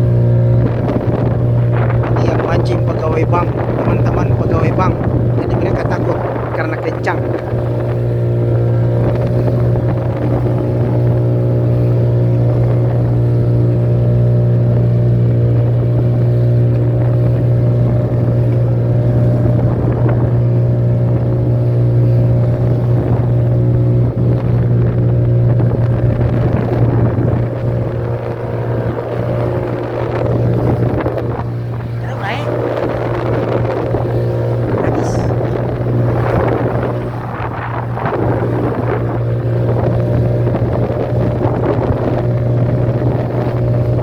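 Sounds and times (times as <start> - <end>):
boat motor droning: 0.0 - 44.0
water noise: 0.0 - 44.0
wind: 0.0 - 44.0.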